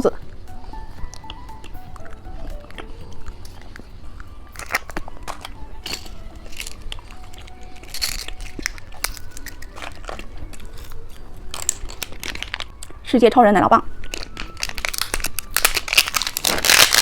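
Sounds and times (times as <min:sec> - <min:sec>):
hard candy crunching: 0:00.2 - 0:13.1, 0:13.9 - 0:17.0.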